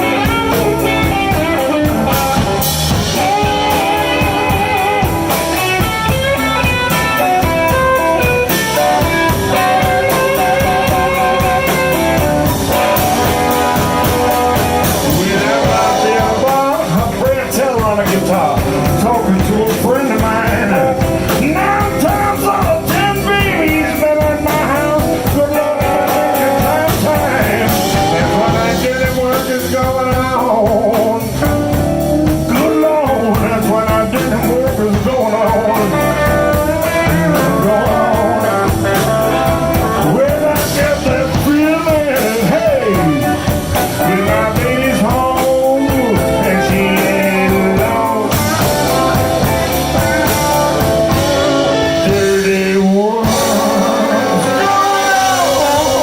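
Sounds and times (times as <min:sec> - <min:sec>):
blues band playing live: 0:00.0 - 0:56.0
guitar bending notes: 0:00.0 - 0:56.0.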